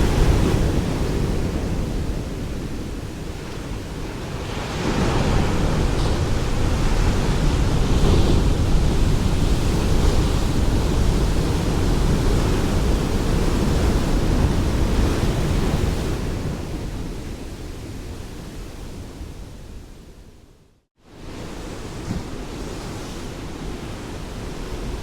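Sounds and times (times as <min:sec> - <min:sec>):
ocean waves breaking on shore: 0:00.0 - 0:19.8, 0:21.0 - 0:25.0.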